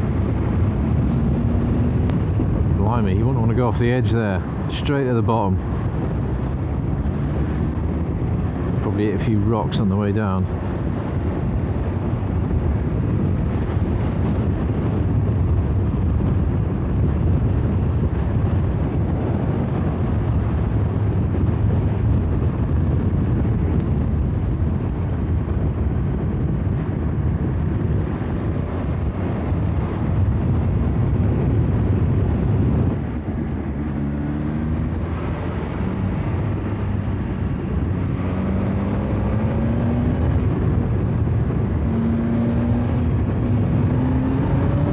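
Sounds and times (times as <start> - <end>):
motorcycle engine accelerating: 0.0 - 2.8, 5.6 - 8.9, 10.5 - 44.9
wind rush: 0.0 - 44.9.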